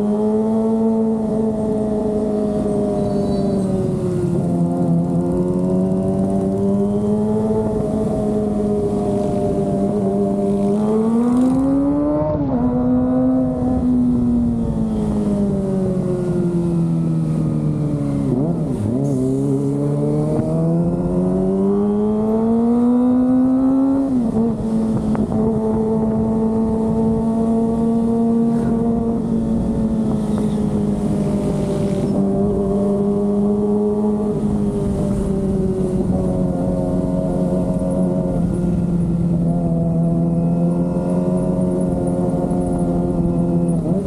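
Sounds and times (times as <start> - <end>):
motorcycle engine at speed: 0.0 - 44.0.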